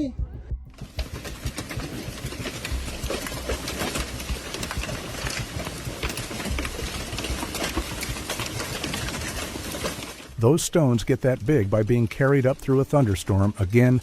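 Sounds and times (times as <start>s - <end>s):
hailstones striking hard surfaces: 0.8s - 14.0s.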